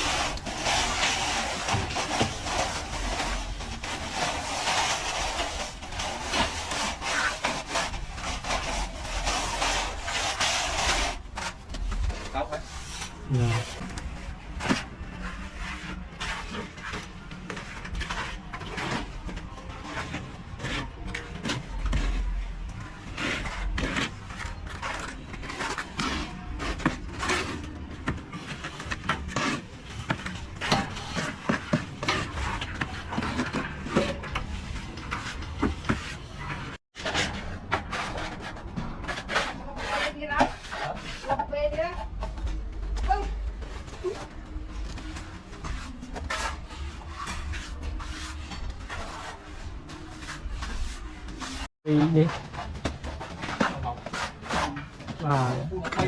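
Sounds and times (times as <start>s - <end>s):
trowel scraping and knocking: 0.0s - 43.0s, 43.6s - 56.0s.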